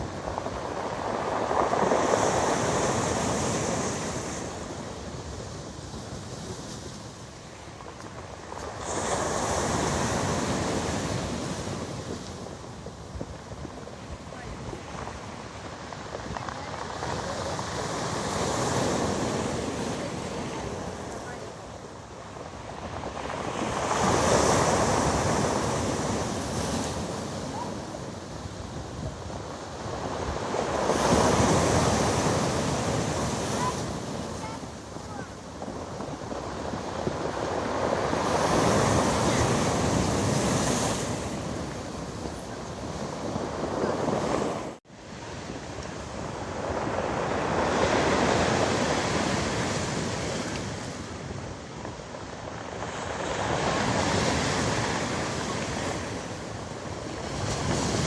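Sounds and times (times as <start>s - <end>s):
waves breaking on pebble beach: 0.0s - 58.0s.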